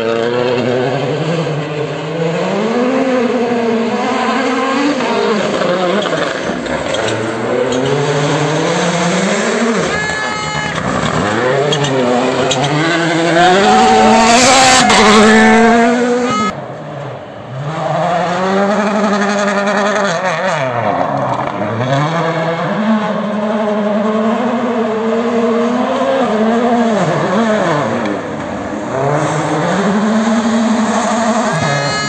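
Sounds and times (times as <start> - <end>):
distant rally car engine: 0.0 - 32.0
rally car engine revving: 0.0 - 32.0.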